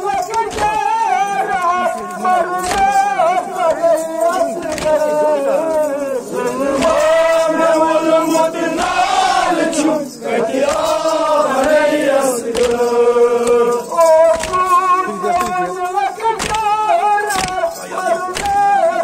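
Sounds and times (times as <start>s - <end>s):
voices chanting: 0.0s - 19.0s.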